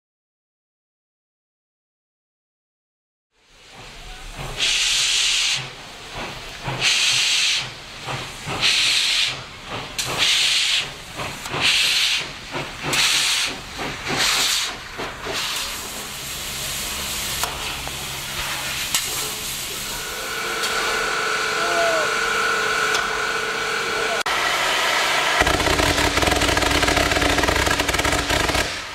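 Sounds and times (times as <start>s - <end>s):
hiss of steam: 3.4s - 28.9s
steam locomotive exhaust chuffs: 3.4s - 28.9s.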